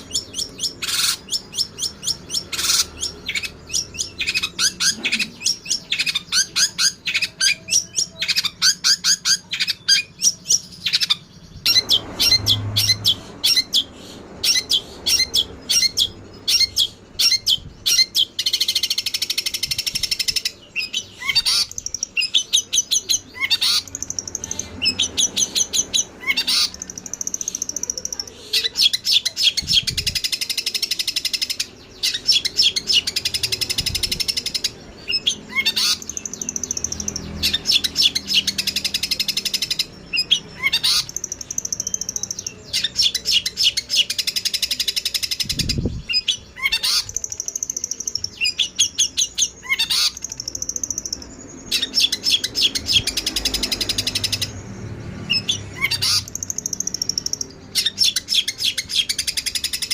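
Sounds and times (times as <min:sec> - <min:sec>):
songbird chirps and chatter: 0:00.0 - 0:59.9.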